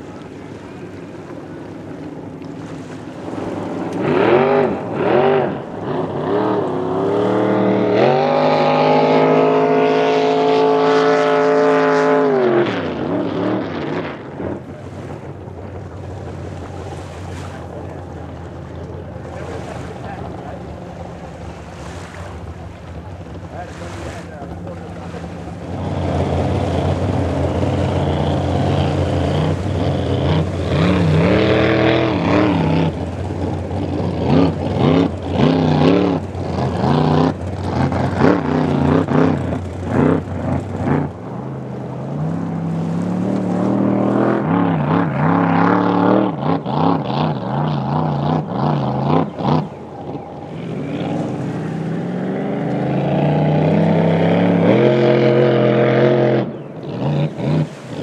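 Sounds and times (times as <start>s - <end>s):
boat engines running hard: 0.0s - 58.0s.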